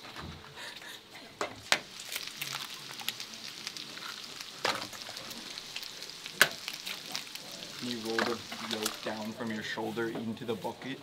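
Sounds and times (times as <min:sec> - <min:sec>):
food sizzling in a pan: 0:01.4 - 0:10.9.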